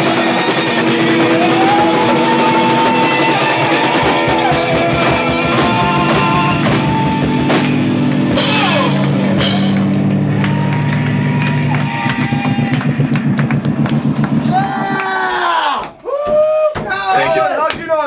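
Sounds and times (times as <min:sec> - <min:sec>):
drums and cymbals: 0:00.0 - 0:10.0, 0:11.5 - 0:17.0
electric guitar chords: 0:00.0 - 0:15.2.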